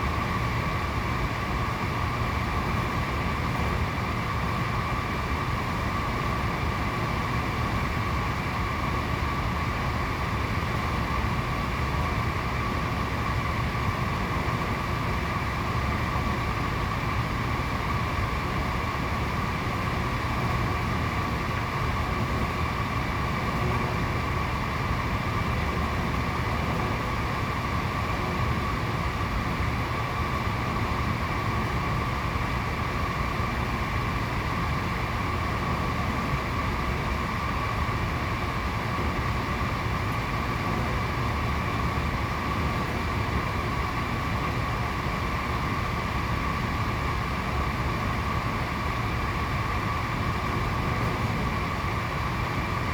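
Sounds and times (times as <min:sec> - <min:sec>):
heater blower fan whirring: 0:00.0 - 0:52.9.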